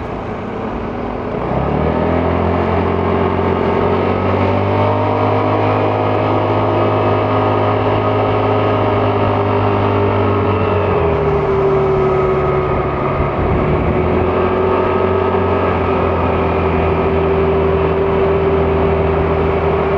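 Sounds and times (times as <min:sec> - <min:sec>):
scooter engine running: 0:00.0 - 0:19.9.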